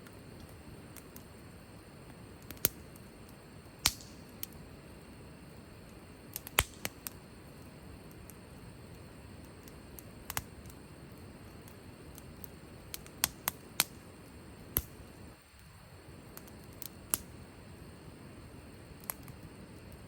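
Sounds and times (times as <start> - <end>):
campfire hiss: 0.0 - 20.0
fire crackling and popping: 0.0 - 20.0.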